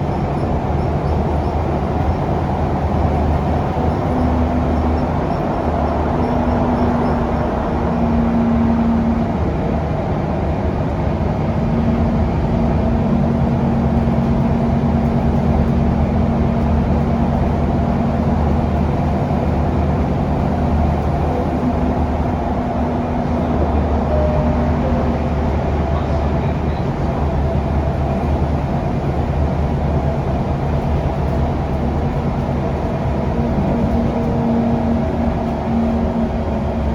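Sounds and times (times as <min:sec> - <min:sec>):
bus engine running: 0:00.0 - 0:36.9
tyre and road noise: 0:00.0 - 0:36.9.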